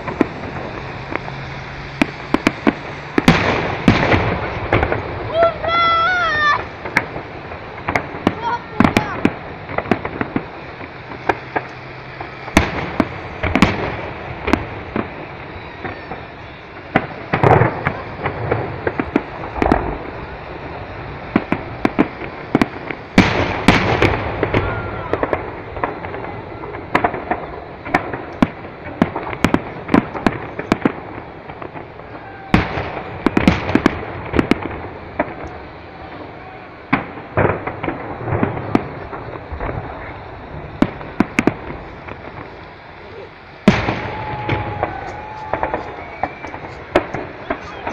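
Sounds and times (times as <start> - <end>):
fireworks bangs: 0.0 - 47.9
fireworks crackling: 0.0 - 47.9.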